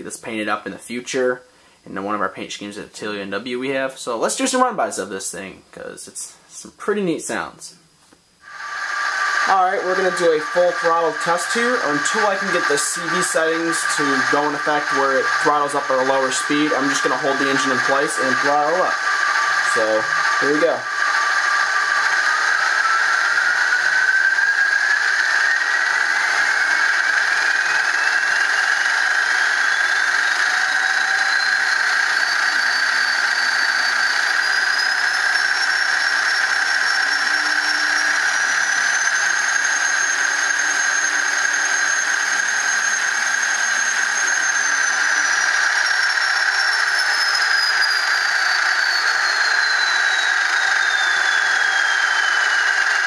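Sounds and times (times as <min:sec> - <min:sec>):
turbo whine: 0:08.4 - 0:53.0
model diesel engine sound from speaker: 0:08.6 - 0:53.0.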